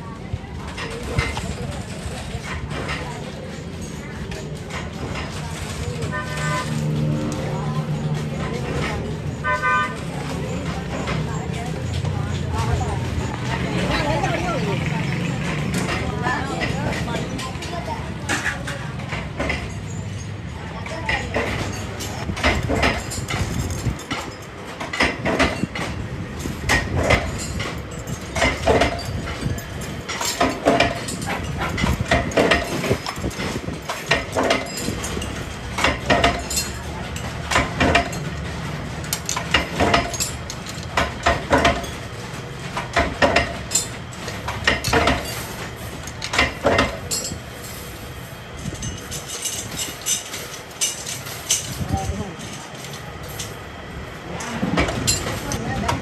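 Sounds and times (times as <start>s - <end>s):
metal parts clinking and knocking: 0.7s - 20.2s, 20.9s - 56.0s.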